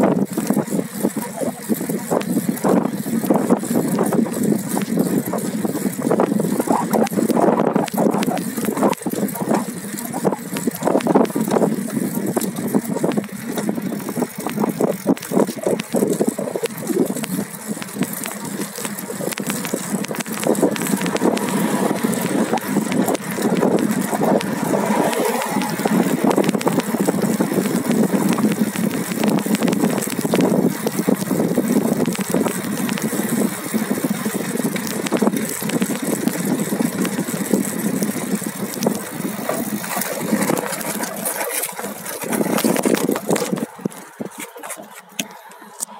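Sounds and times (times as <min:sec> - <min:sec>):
wind buffeting microphone: 0:00.0 - 0:45.3
steady rumble: 0:00.0 - 0:45.9
rattling and clicking: 0:00.3 - 0:45.6.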